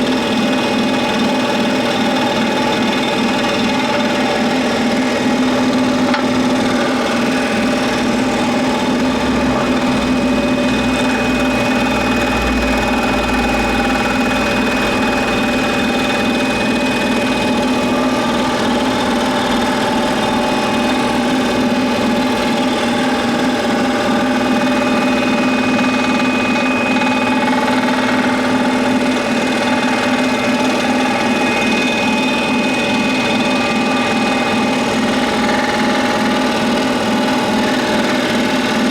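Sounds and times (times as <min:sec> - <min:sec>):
scroll saw cutting wood: 0:00.0 - 0:38.9.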